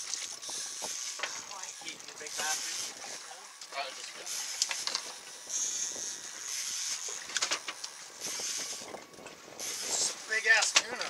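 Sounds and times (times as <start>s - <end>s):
fishing rods and reels clicking: 0.0s - 11.0s
wind and water hiss: 0.0s - 11.0s.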